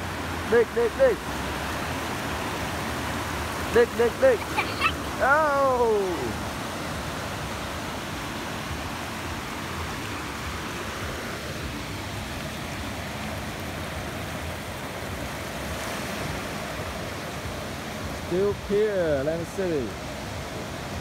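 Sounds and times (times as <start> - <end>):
ocean surf washing: 0.0 - 21.0.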